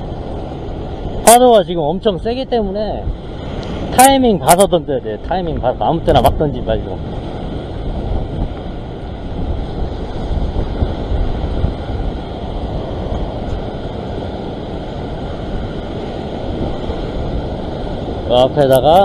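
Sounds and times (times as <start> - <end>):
heavy surf breaking on rocks: 0.0 - 19.0
wind buffeting microphone: 0.0 - 19.0.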